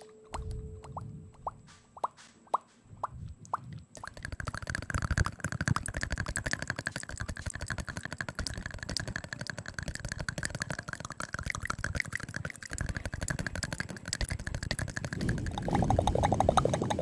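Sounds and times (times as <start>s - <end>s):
wet tongue and lip clicks: 0.0s - 17.0s.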